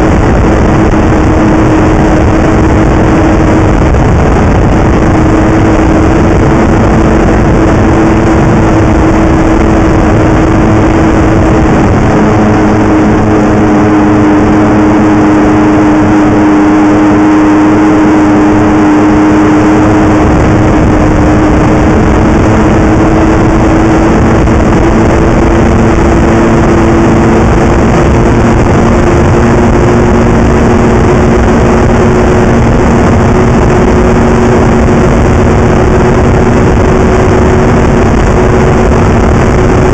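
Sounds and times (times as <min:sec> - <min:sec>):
snowmobile engine running: 0:00.0 - 0:39.9
wind noise on microphone: 0:00.0 - 0:39.9.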